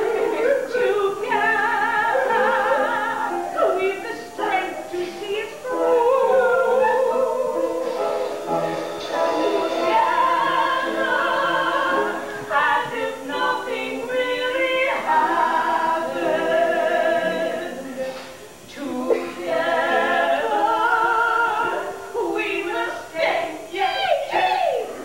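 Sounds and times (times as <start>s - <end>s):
singers in harmony: 0.0s - 25.0s.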